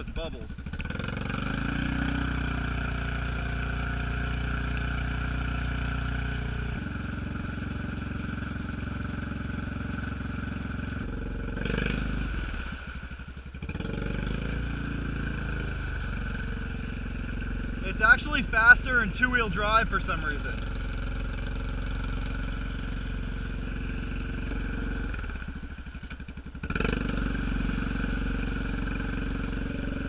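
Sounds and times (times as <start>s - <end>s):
engine running under throttle: 0.0s - 30.0s.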